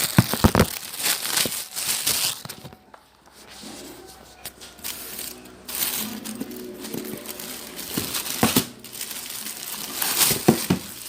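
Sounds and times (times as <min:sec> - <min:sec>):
plastic and paper crinkling: 0:00.0 - 0:11.0.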